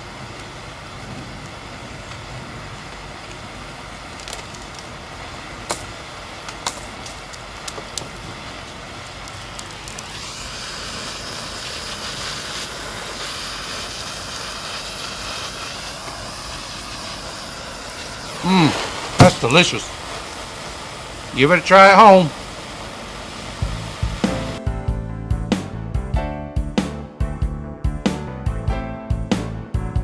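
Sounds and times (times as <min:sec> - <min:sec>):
propane torch flame hissing: 0:00.0 - 0:24.7.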